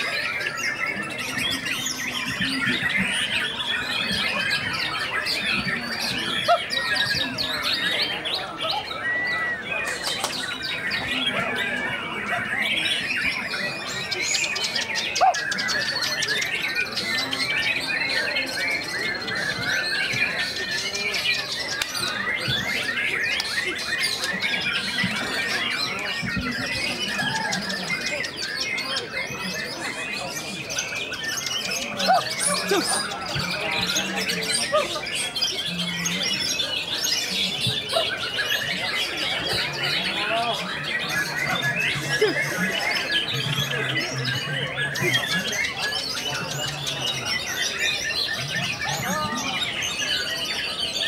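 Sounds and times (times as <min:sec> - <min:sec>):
birds singing whistled phrases: 0:00.0 - 0:51.0
chorus of songbirds: 0:00.0 - 0:51.0.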